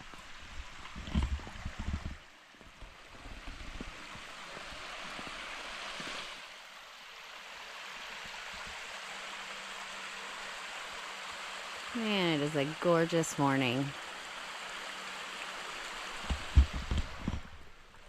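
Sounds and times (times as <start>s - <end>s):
creek flowing over rocks: 0.0s - 18.0s.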